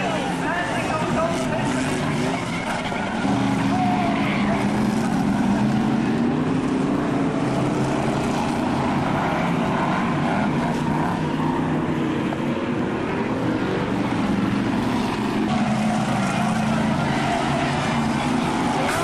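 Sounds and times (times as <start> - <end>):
racing car engines droning: 0.0 - 19.0.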